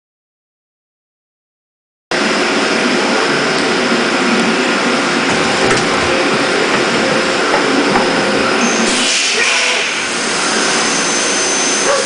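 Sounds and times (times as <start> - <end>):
machine tool whirring hum: 2.2 - 11.9.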